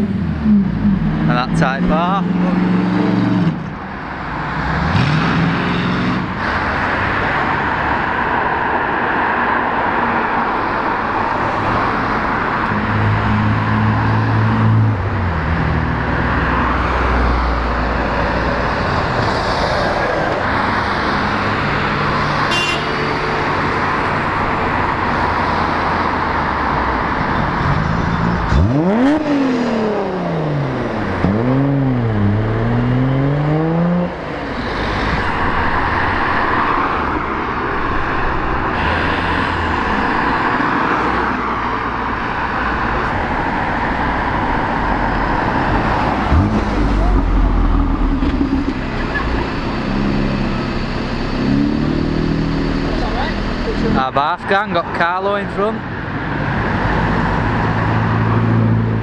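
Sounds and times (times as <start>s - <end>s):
car engine revving: 0.0s - 9.9s, 10.5s - 55.8s
cars driving past: 0.0s - 59.0s.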